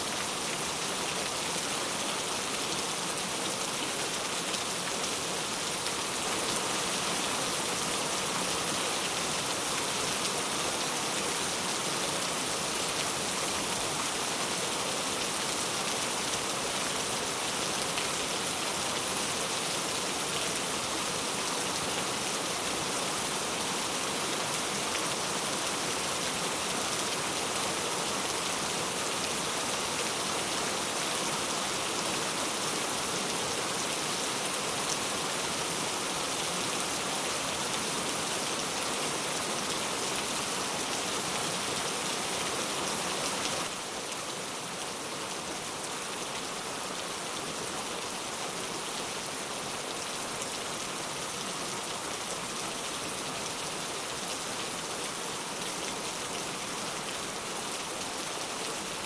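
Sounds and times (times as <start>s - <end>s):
dense rain on a surface: 0.0s - 59.0s.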